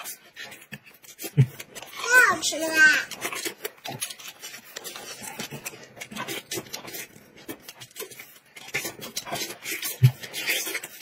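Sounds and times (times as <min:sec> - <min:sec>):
man chewing and tearing chicken: 0:00.0 - 0:11.0.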